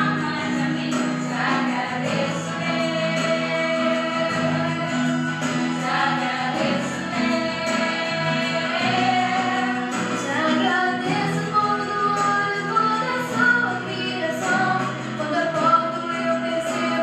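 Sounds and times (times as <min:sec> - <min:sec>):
worship song singing with accompaniment: 0:00.0 - 0:17.0.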